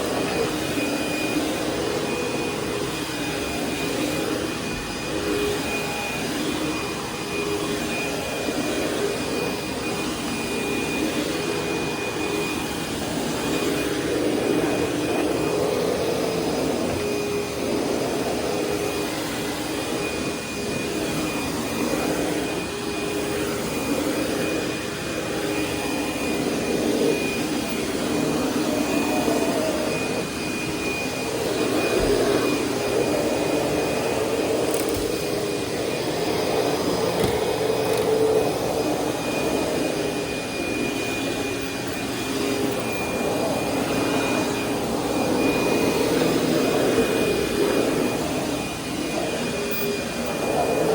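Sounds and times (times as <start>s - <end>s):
upright vacuum cleaner running: 0.0s - 50.9s.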